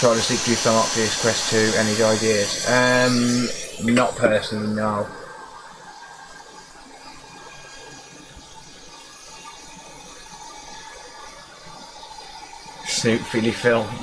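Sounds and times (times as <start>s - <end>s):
blower hissing: 0.0s - 14.0s.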